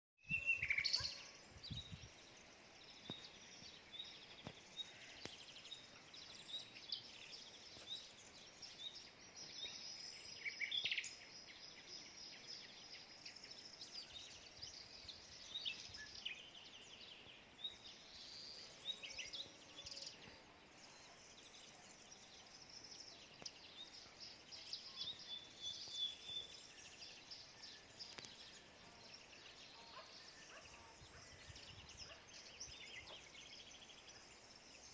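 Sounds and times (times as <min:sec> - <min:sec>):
wild birds chirping: 0:00.2 - 0:34.9.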